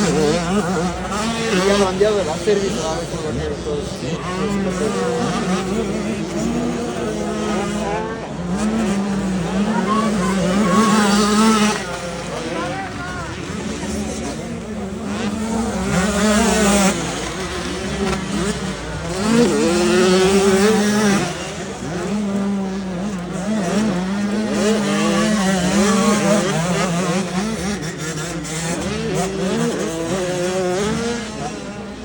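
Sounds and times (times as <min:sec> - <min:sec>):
motocross bikes revving: 0:00.0 - 0:32.0.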